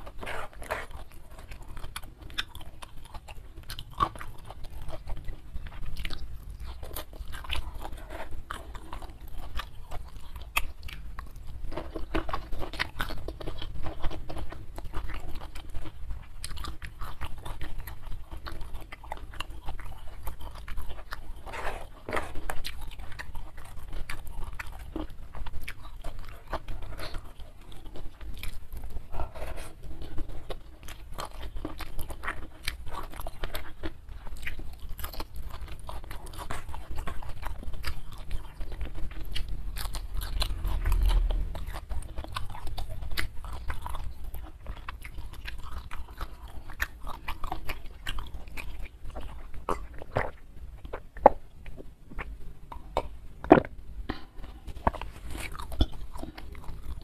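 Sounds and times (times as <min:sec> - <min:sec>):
wet chewing with crunches: 0:00.0 - 0:57.0.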